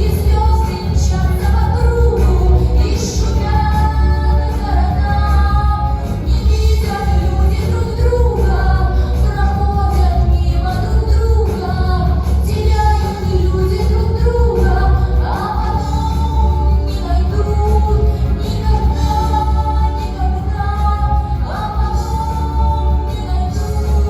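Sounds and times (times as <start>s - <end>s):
heavy bass: 0.0s - 24.0s
woman singing: 0.0s - 24.0s.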